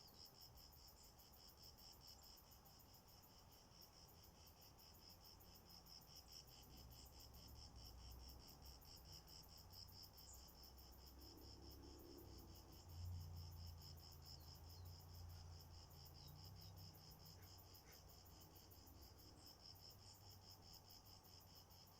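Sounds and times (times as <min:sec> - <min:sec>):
insect chirping: 0:00.0 - 0:21.9.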